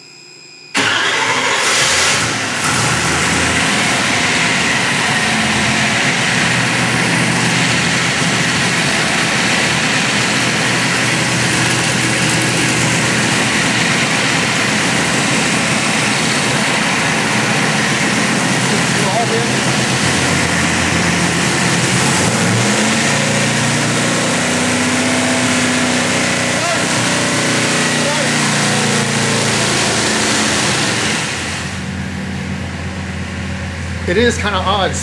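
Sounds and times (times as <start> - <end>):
engine starting and running: 0.8 - 35.0.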